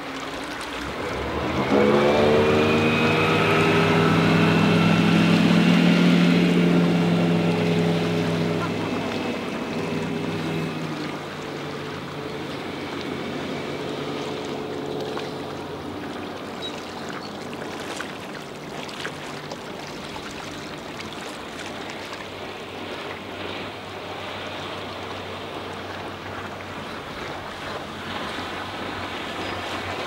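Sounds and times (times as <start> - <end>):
boat engine drone: 0.0 - 30.0
wake rushing: 0.0 - 30.0
wind: 0.0 - 30.0.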